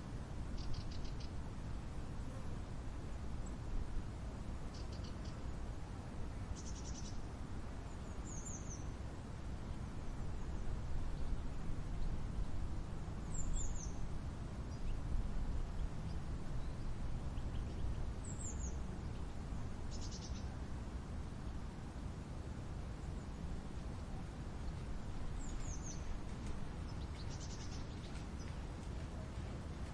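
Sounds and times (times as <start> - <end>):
steady low rumble: 0.0 - 29.9.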